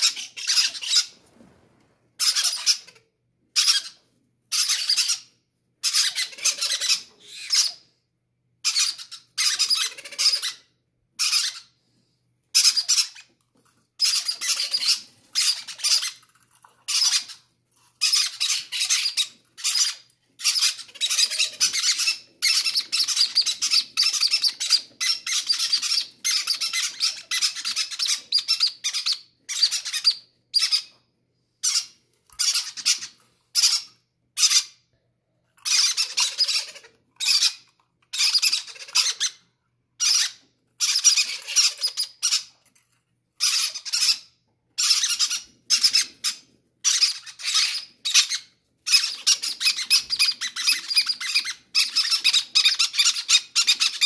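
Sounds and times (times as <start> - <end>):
parrot chicks begging calls: 0.0 - 1.2, 2.2 - 3.0, 3.6 - 7.9, 8.6 - 11.8, 12.5 - 13.3, 14.0 - 31.0, 31.6 - 34.8, 35.6 - 42.6, 43.4 - 54.0.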